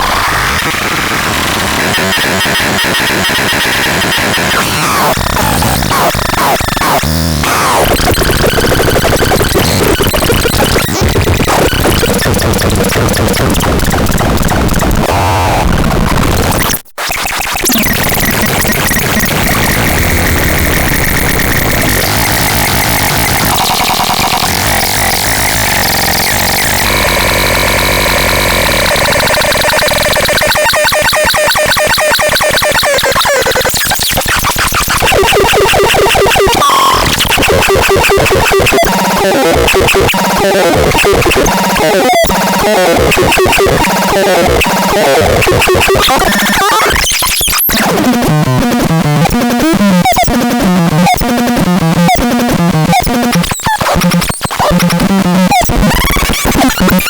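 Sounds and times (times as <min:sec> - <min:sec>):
chaotic electronic synthesizer tones: 0:00.0 - 0:57.0.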